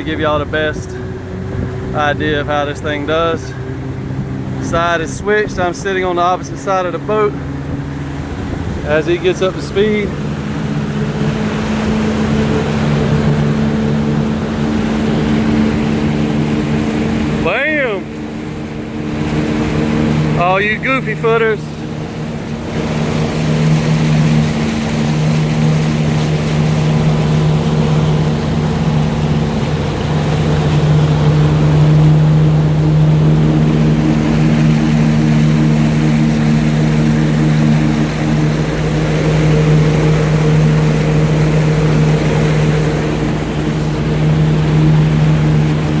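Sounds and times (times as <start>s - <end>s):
boat engine drone: 0.0s - 46.0s
water rushing: 0.0s - 46.0s.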